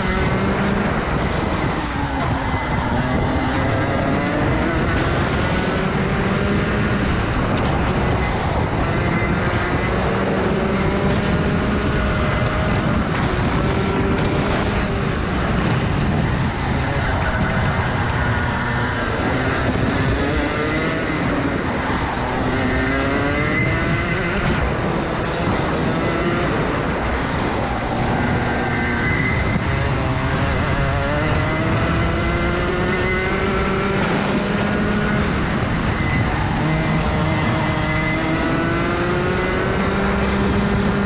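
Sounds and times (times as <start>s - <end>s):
kart engine revving: 0.0s - 41.0s.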